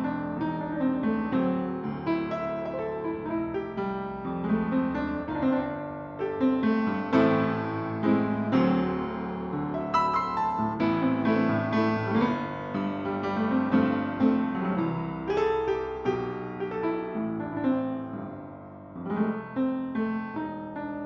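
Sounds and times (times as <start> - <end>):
piano playing: 0.0 - 21.0.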